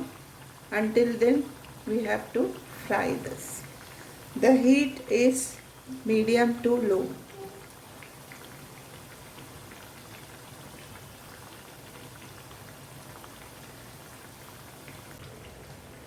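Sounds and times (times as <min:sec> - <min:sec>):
fritters sizzling in hot oil: 0:00.0 - 0:16.0.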